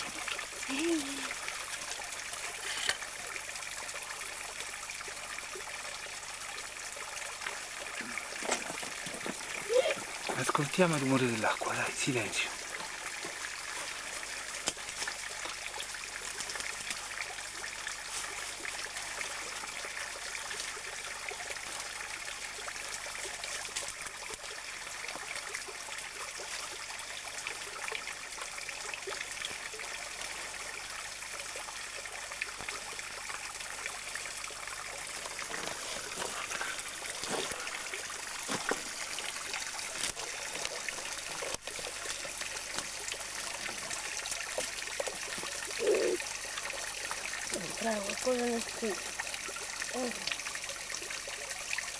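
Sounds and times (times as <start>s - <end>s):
creek water trickling over stones: 0.0s - 51.9s.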